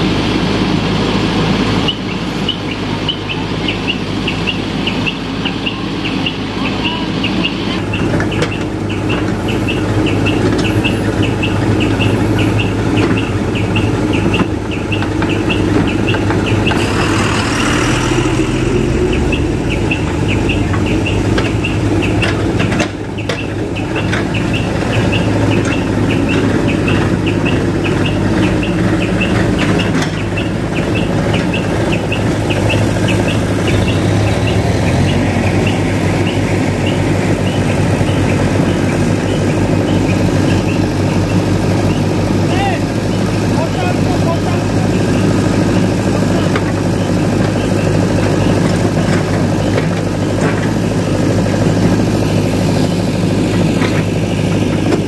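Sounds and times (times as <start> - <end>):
diesel engines running: 0.0 - 55.0
regular high ticking: 3.7 - 55.0.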